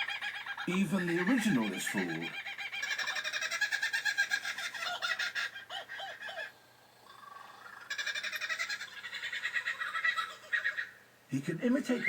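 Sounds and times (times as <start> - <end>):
kookaburra laughing call: 0.0 - 6.6, 7.2 - 11.0.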